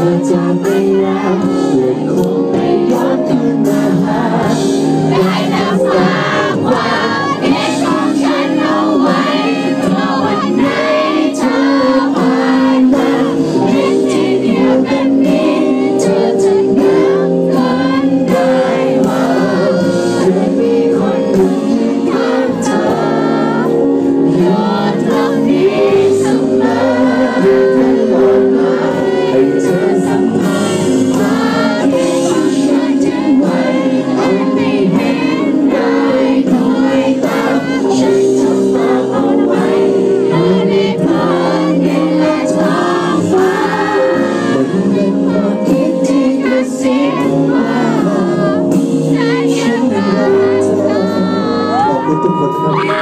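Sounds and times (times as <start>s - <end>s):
live pop-rock band: 0.0s - 53.0s
man singing: 0.0s - 53.0s.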